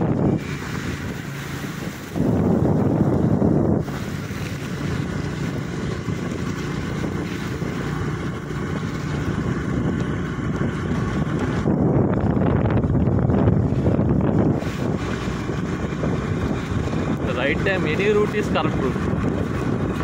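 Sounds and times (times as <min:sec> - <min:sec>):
motorbike engine running: 0:00.0 - 0:20.0
wind rushing over microphone: 0:00.0 - 0:20.0.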